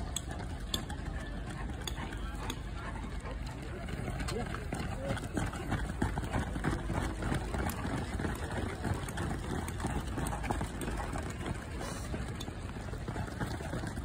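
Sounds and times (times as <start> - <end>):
runners footsteps on a track: 0.0 - 14.0.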